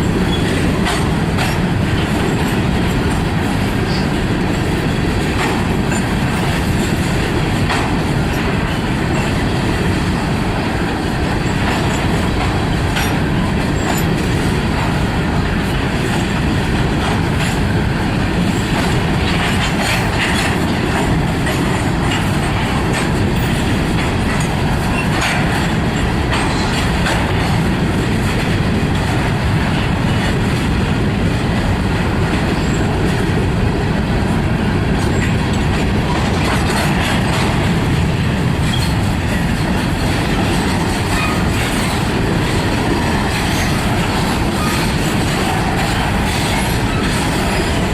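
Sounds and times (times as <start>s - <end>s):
train wheels clicking: 0.0s - 47.9s
train wheels rumbling on rail: 0.0s - 47.9s.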